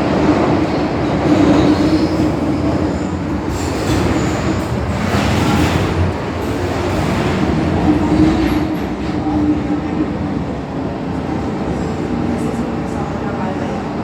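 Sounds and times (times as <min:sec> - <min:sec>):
metro wheels rumbling on rail: 0:00.0 - 0:14.0.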